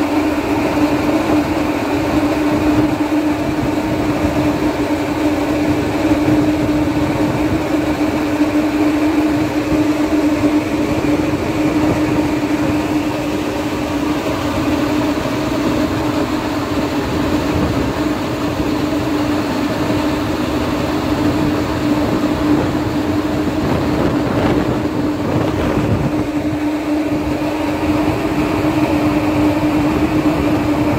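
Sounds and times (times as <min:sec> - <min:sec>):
ferry engine drone: 0:00.0 - 0:30.9.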